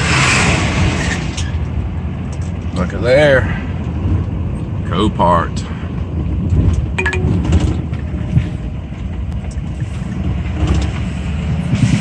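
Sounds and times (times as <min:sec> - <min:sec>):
road rumble: 0:00.0 - 0:12.0.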